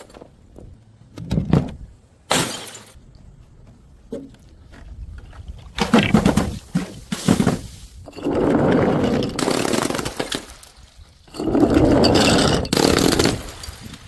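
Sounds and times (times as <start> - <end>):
harsh crunching and scraping: 2.5 - 14.0.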